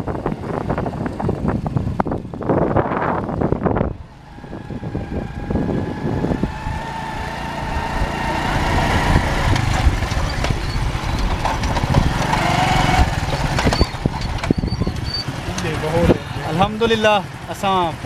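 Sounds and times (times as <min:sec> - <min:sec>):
wind buffeting microphone: 0:00.0 - 0:17.4
motorcycle engine running: 0:00.0 - 0:18.0.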